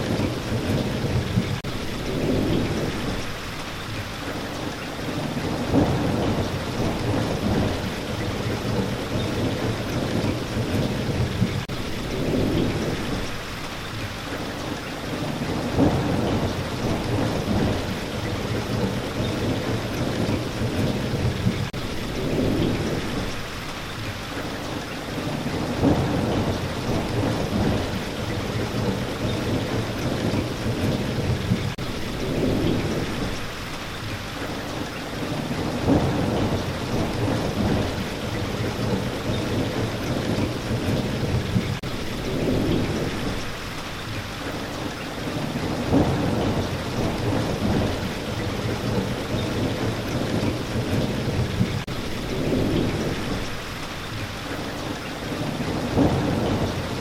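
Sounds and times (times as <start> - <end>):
rain pattering: 0.0 - 57.0
thunder rumbling: 0.0 - 57.0.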